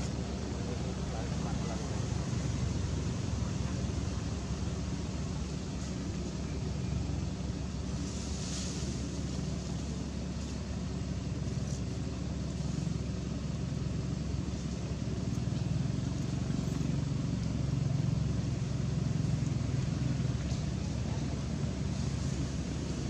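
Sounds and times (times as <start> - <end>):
soft hiss: 0.0 - 23.0.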